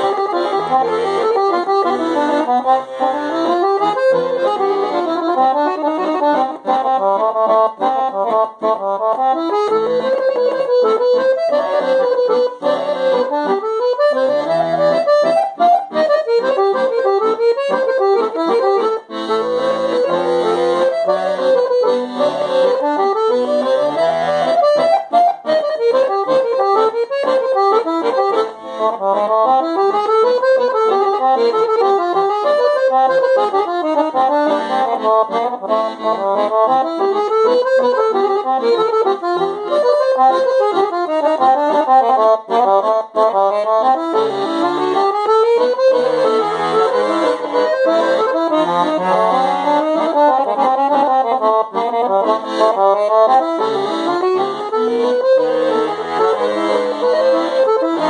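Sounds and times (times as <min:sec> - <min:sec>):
piano accordion playing: 0:00.0 - 0:58.0.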